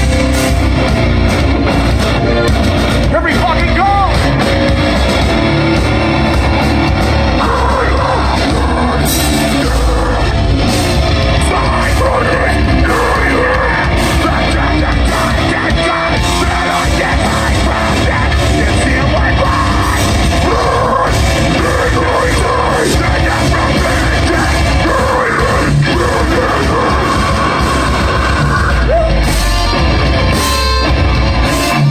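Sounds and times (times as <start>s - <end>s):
bass guitar: 0.0s - 31.9s
distorted guitars: 0.0s - 31.9s
drums: 0.0s - 31.9s
people singing and yelling: 3.2s - 31.9s.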